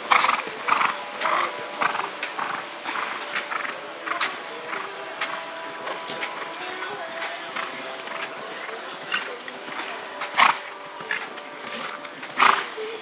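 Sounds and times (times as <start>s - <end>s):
hoofbeats on grass: 0.0s - 13.0s.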